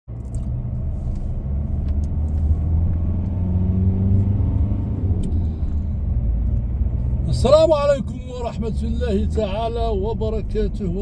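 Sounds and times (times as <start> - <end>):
car engine and road noise: 0.1 - 11.0.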